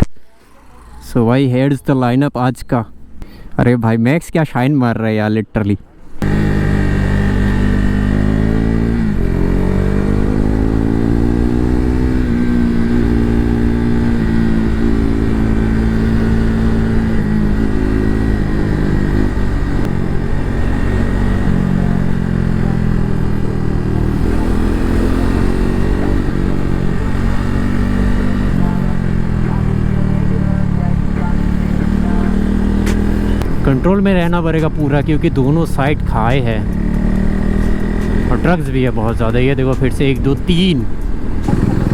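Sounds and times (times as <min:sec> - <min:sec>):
motorcycle engine shifting gears: 0:05.9 - 0:41.9.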